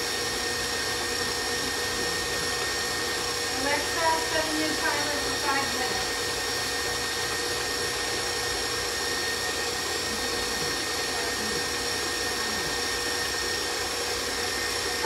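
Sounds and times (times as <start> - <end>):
stand mixer motor whining: 0.0 - 15.0.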